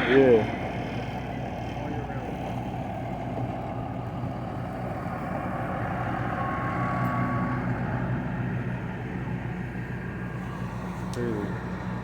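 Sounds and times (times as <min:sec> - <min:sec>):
large vehicle engine idling: 0:00.0 - 0:12.0.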